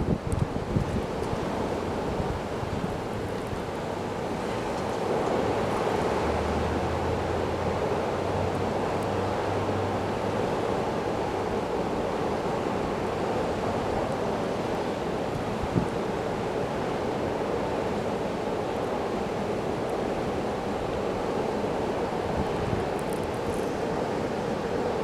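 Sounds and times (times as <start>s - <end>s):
snowstorm wind blowing: 0.0s - 25.0s.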